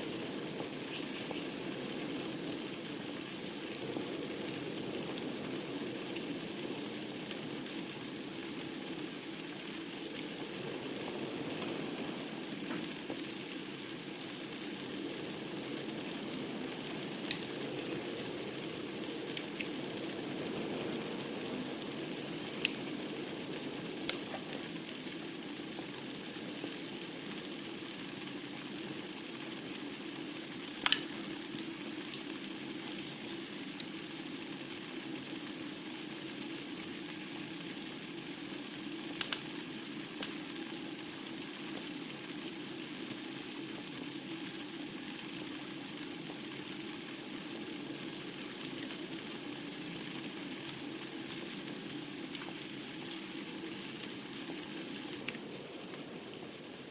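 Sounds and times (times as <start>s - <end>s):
fire rushing and hissing: 0.0s - 56.9s
wood fire crackling and popping: 0.0s - 56.9s.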